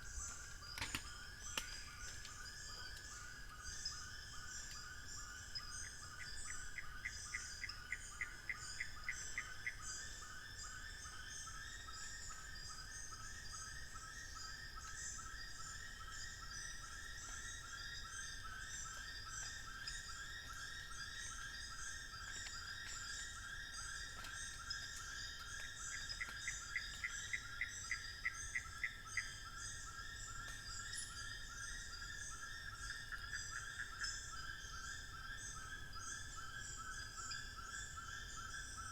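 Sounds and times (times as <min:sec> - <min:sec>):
chorus of birds frogs and insects: 0:00.0 - 0:38.9.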